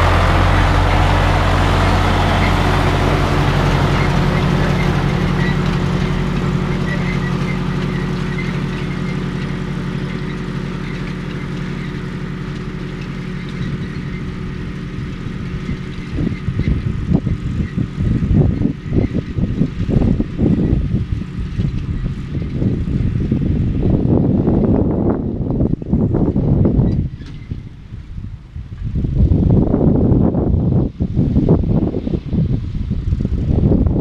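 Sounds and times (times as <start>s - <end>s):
wind buffeting microphone: 0.0s - 10.5s, 13.0s - 34.0s
tractor diesel engine running: 0.0s - 34.0s.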